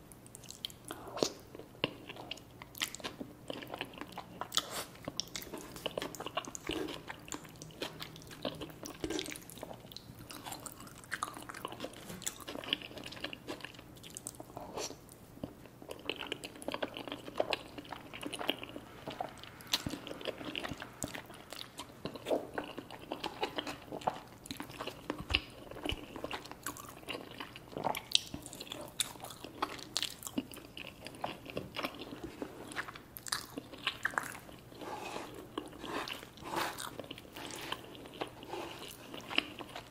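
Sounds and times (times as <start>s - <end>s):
person chewing food: 0.2s - 39.9s.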